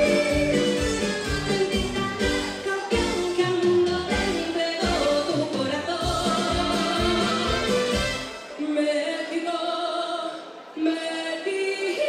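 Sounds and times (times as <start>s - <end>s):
live latin dance band: 0.0s - 10.4s.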